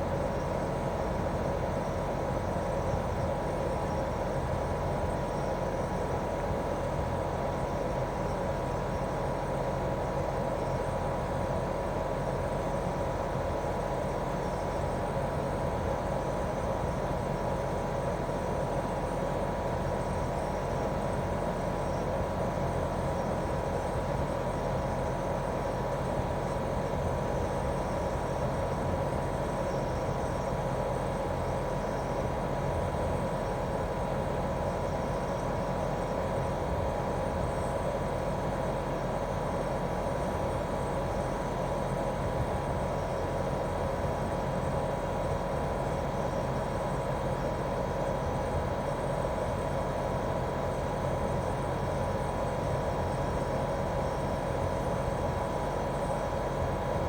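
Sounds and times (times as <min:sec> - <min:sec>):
air conditioner outdoor unit humming: 0:00.0 - 0:57.0.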